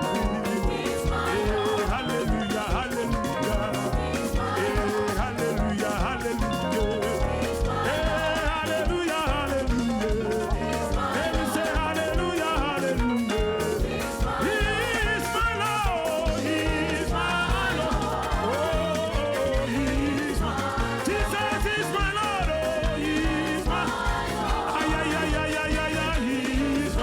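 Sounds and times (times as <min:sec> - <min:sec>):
drum and bass beat: 0:00.0 - 0:27.0
singing: 0:00.0 - 0:27.0.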